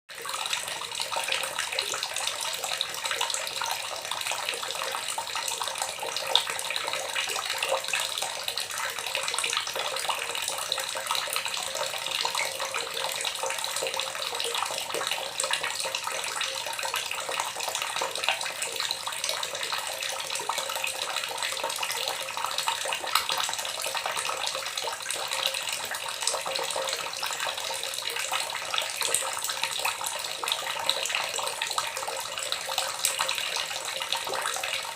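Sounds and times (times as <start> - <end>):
water gurgling: 0.1 - 34.9.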